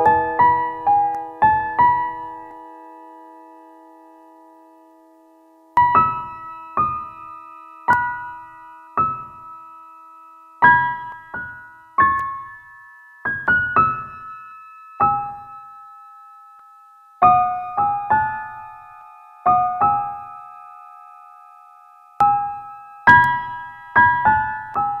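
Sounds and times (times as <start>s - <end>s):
gentle solo piano: 0.0s - 4.5s, 5.8s - 10.0s, 10.6s - 15.9s, 17.2s - 21.1s, 22.2s - 25.0s.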